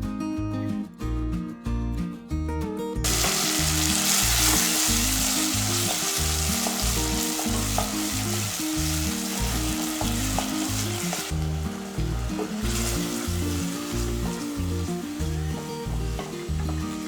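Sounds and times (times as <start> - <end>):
background music: 0.0 - 17.0
food sizzling in hot oil: 3.0 - 17.0.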